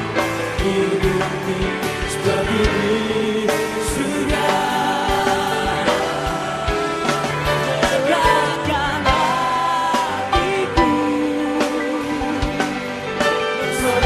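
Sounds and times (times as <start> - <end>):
backing singers: 0.0 - 14.0
live band playing worship song: 0.0 - 14.0
man singing lead: 0.0 - 14.0
steady drum beat: 0.0 - 14.0.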